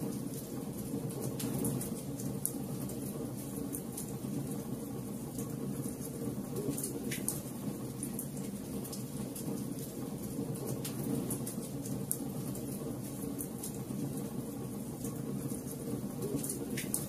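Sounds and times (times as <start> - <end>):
low rumble of flames: 0.0 - 17.0.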